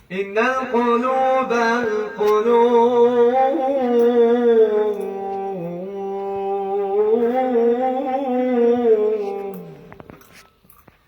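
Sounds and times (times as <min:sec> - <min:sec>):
man singing melismatic note: 0:00.1 - 0:09.9.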